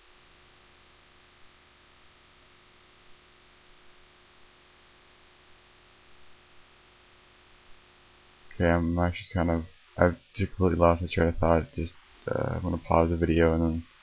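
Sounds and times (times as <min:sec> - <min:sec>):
faint electrical hum: 0:00.0 - 0:14.0
recording hiss: 0:00.0 - 0:14.0.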